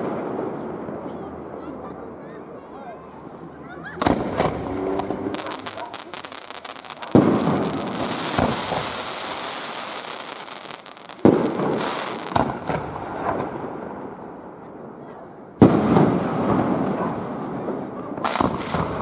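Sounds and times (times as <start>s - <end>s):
fireworks bursting with bangs: 0.0s - 1.6s, 3.1s - 15.0s, 15.6s - 19.0s
fireworks crackling and hissing: 2.4s - 15.0s, 15.6s - 19.0s.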